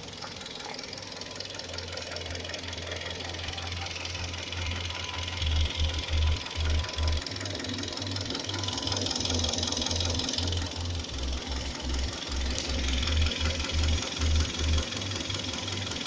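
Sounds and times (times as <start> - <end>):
engine rattle: 0.0 - 16.0
rhythmic engine knock: 0.0 - 16.0.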